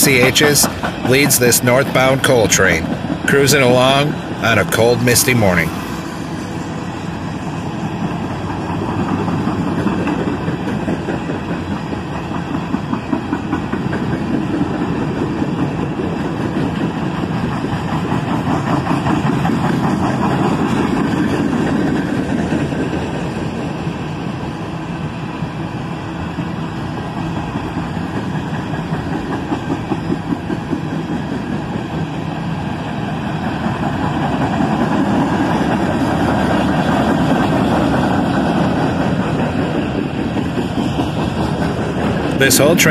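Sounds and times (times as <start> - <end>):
diesel locomotive rumble: 0.0 - 42.9
train wheels rolling on rails: 0.0 - 42.9.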